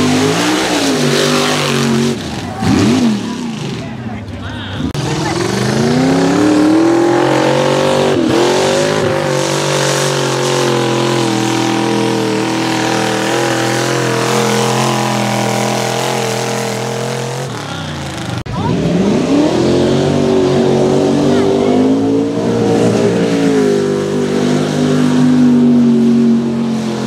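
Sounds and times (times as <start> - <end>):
second truck engine revving: 0.0 - 4.2, 4.8 - 27.0
truck engine revving: 0.0 - 27.0.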